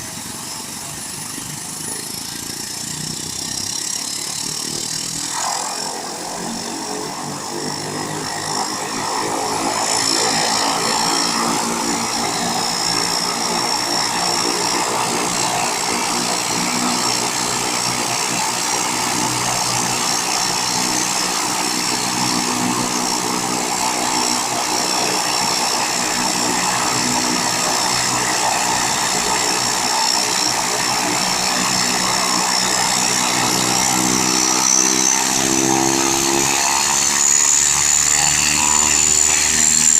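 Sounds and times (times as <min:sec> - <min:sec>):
propeller plane engine: 0:00.0 - 0:39.9.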